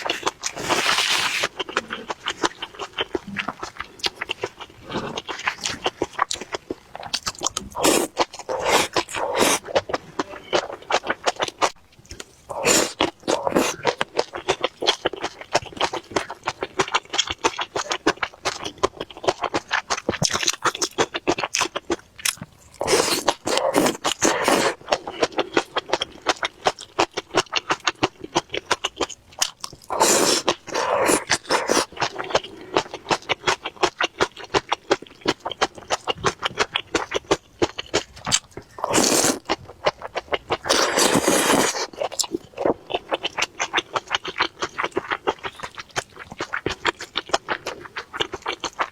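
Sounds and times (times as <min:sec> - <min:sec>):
wet chewing and mouth clicks: 0:00.0 - 0:48.9.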